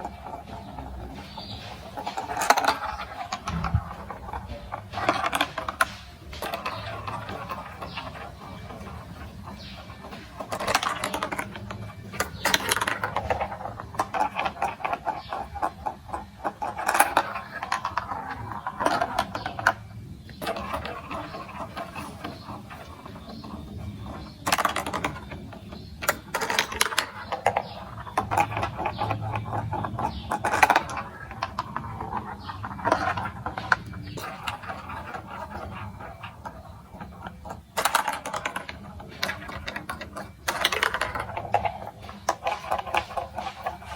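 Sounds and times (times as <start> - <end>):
marbles clicking and rattling: 0.0 - 43.9.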